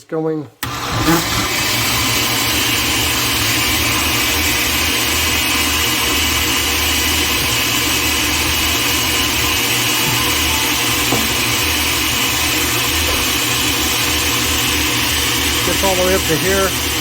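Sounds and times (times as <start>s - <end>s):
blender running: 0.6s - 17.0s.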